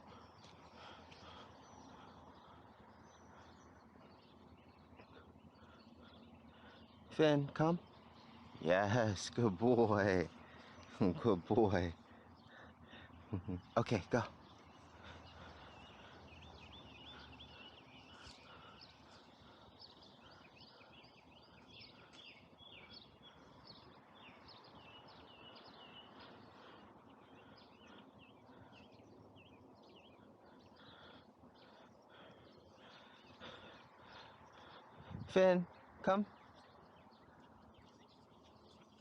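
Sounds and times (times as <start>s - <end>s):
birds chirping and trilling: 0.0s - 39.0s
open-air background hiss: 0.0s - 39.0s.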